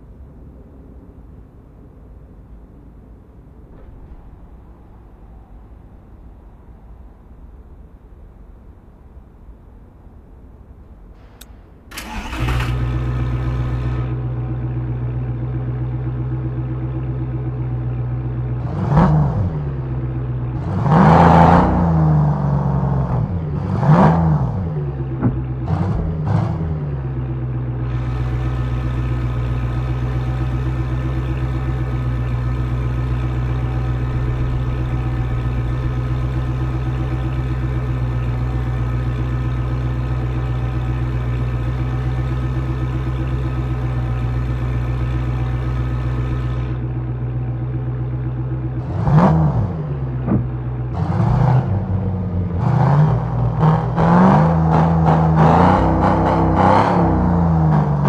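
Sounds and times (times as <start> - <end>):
car engine idling and revving: 10.8 - 58.0.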